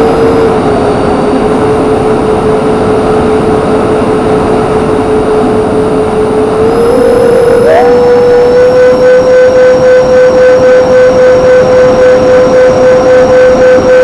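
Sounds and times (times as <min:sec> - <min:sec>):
electric ducted fans whining: 0:00.0 - 0:14.0.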